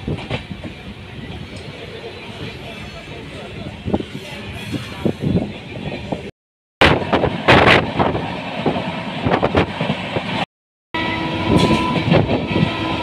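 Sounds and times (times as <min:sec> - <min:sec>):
train running rumble: 0:00.0 - 0:10.4, 0:11.0 - 0:13.0.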